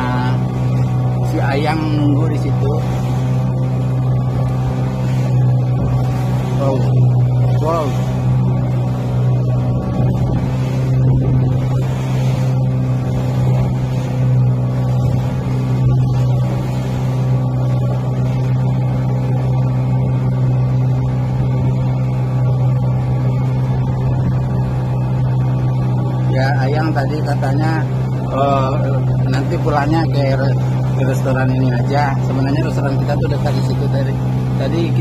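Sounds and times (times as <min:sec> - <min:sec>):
motorboat engine droning: 0:00.0 - 0:35.0
water rushing along hull: 0:00.0 - 0:35.0.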